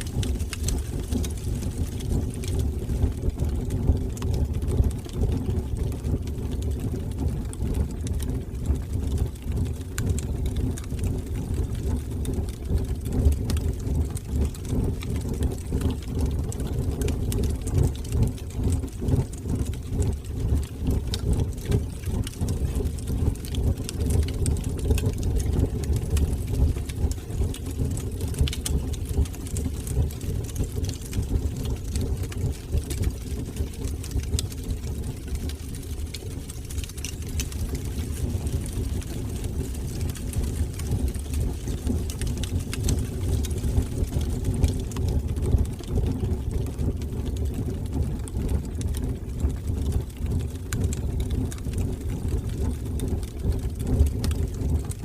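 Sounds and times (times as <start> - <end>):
burning wood crackling: 0.0 - 55.0
fire flames rumbling: 0.0 - 55.0.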